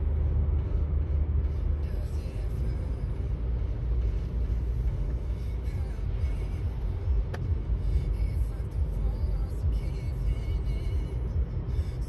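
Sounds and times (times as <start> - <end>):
car tyre and engine rumble: 0.0 - 12.0.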